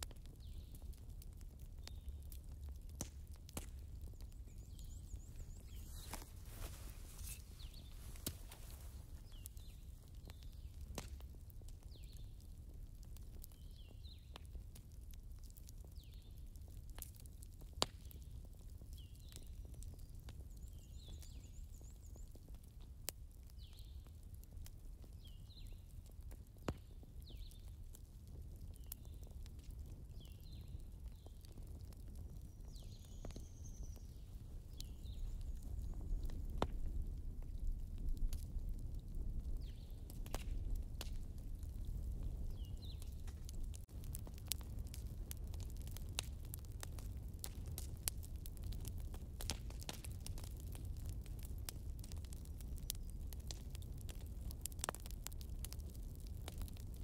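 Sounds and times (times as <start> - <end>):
log fire crackling and popping: 0.0 - 57.0.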